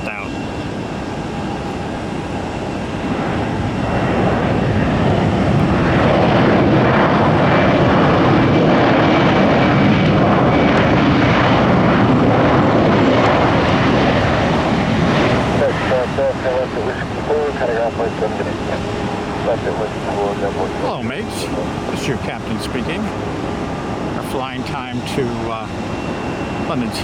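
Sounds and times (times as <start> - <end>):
faint high engine whine: 0.0 - 27.0
jet aircraft engines running: 0.0 - 27.0.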